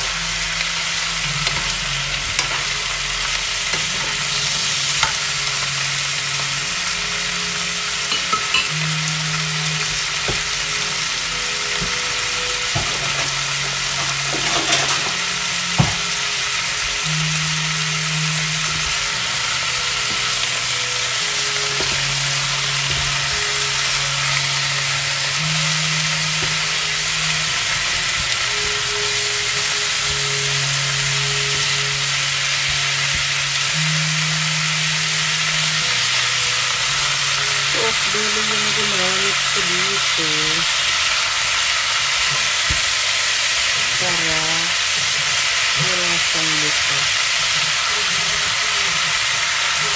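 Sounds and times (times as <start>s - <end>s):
meat sizzling in a frying pan: 0.0s - 49.9s.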